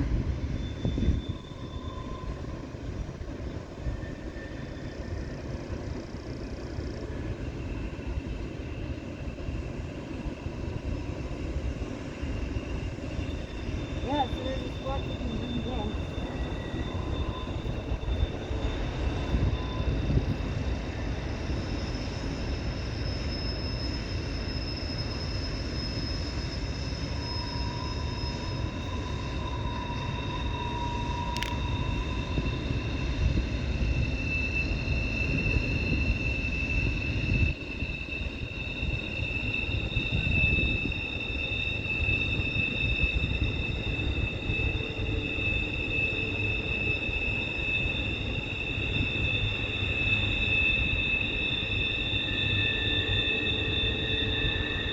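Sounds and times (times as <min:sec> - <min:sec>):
low rumble of train cars: 0:00.0 - 0:54.9
train wheels squealing: 0:00.0 - 0:54.9.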